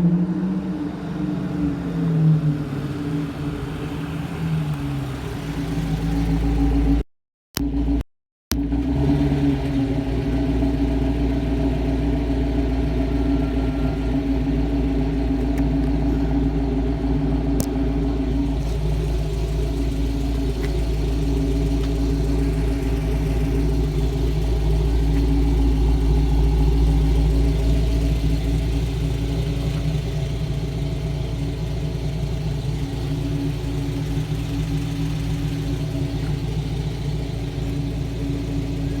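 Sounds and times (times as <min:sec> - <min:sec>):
car engine idling: 0:00.2 - 0:07.0, 0:07.6 - 0:39.0.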